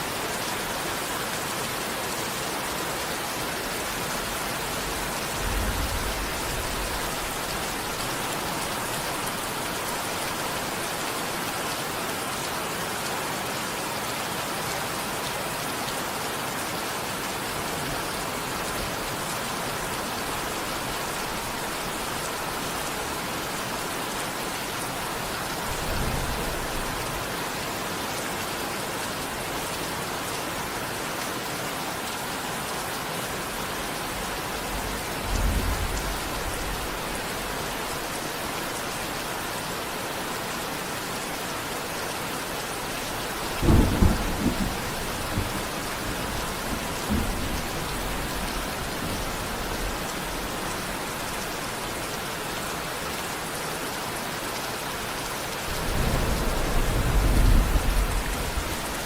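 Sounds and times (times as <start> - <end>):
dense rainfall hissing: 0.0 - 59.0.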